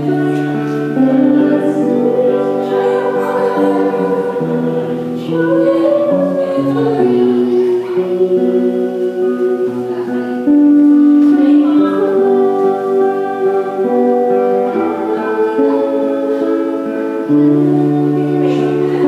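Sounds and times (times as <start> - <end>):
acoustic guitar: 0.0 - 19.0
woman singing slow song: 0.0 - 19.0.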